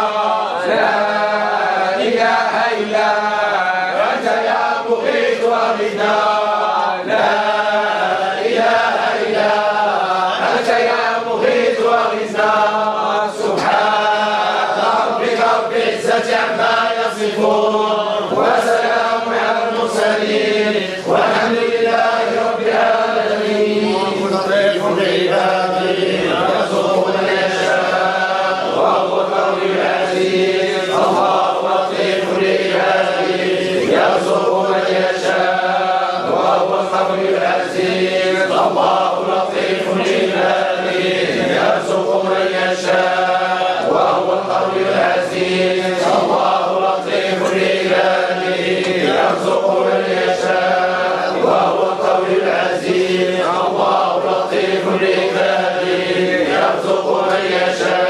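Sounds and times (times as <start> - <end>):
men chanting: 0.0 - 58.0.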